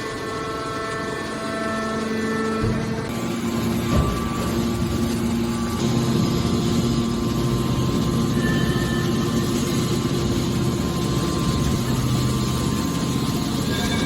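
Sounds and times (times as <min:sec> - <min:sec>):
baler machine humming: 0:00.0 - 0:14.0.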